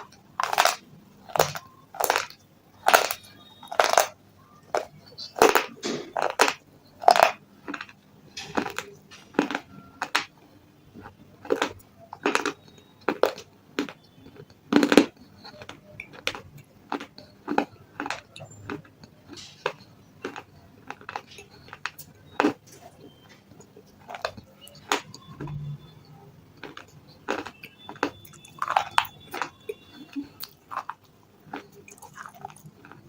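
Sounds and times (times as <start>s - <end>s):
crunching stone between teeth: 0.0s - 10.3s, 11.0s - 23.2s, 23.9s - 25.8s, 26.6s - 33.0s.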